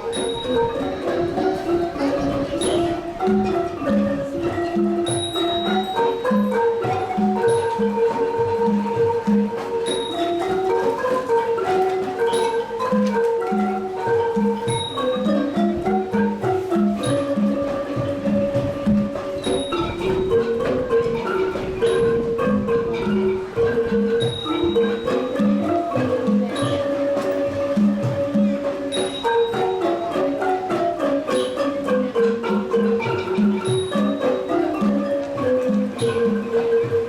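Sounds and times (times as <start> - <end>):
wooden xylophones playing: 0.0 - 37.0.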